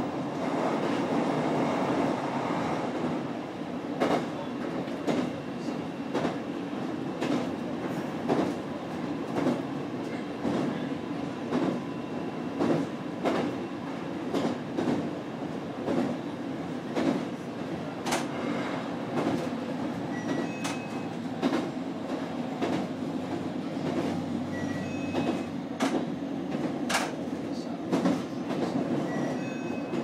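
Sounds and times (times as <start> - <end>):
train wheels rumbling: 3.9 - 30.0.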